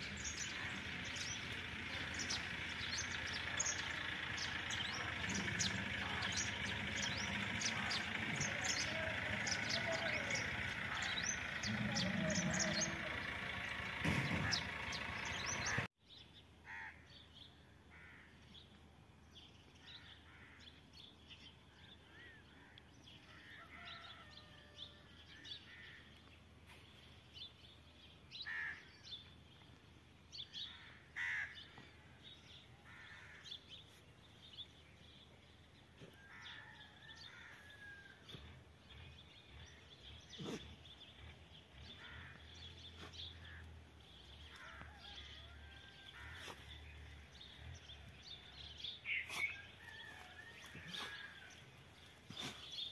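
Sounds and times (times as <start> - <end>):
bird calls and chirps: 0.0 - 17.6, 18.4 - 52.9.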